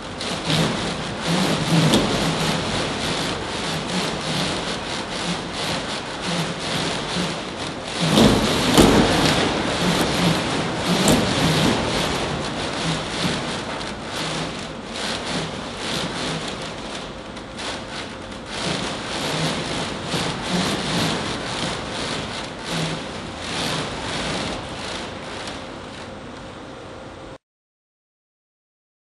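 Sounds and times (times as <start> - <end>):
wooden frames rattling and creaking: 0.0 - 26.2
shake table rumble: 0.0 - 26.5.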